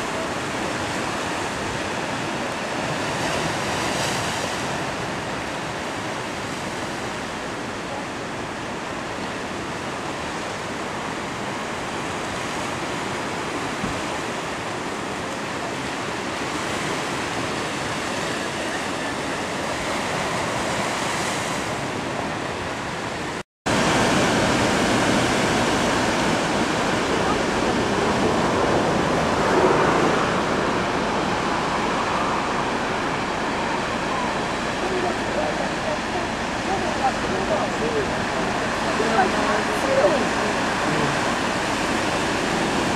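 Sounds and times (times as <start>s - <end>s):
surf breaking over rocks: 0.0s - 42.9s.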